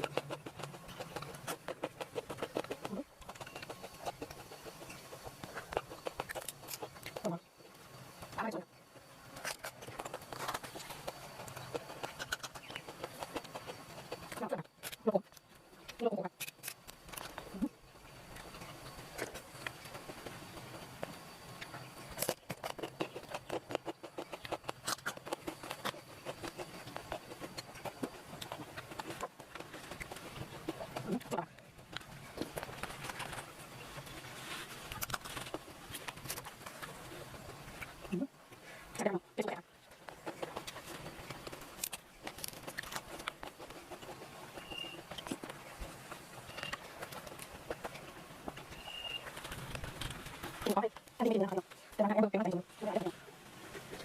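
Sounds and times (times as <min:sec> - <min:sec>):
sharp clicks and crackles: 0:00.0 - 0:52.0
crunching and chewing: 0:00.0 - 0:52.6, 0:53.2 - 0:54.0
faint steady hiss: 0:00.0 - 0:54.0.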